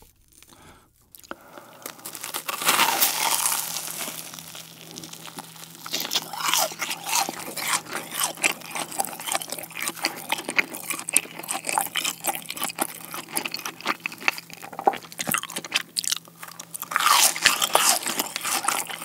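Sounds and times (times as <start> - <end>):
crisp crust crackling: 0.0 - 19.0
crunching and chewing fried food: 0.0 - 19.0.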